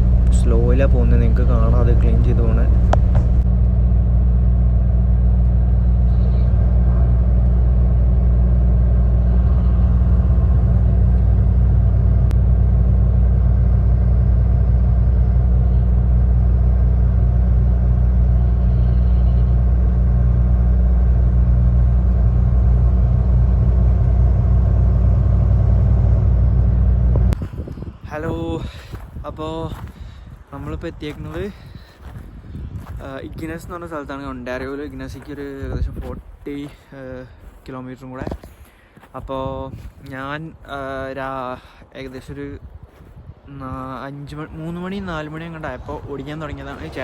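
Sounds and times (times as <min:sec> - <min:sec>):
diesel truck engine drone: 0:00.0 - 0:47.0
road noise: 0:00.0 - 0:47.0.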